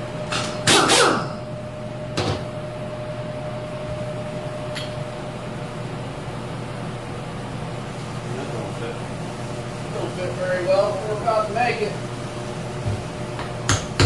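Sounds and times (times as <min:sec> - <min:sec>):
low shop hum: 0:00.0 - 0:14.0.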